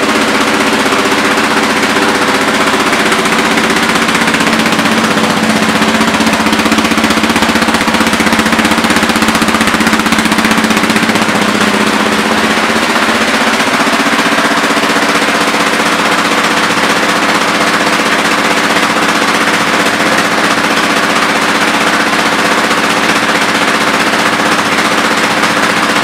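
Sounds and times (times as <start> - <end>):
quad bike engine idling: 0.0 - 26.0.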